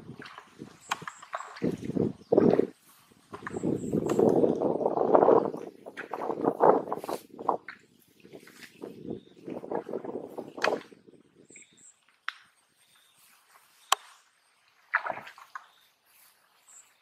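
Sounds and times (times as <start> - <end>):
footsteps through tall grass: 0.0 - 10.7, 12.6 - 17.0.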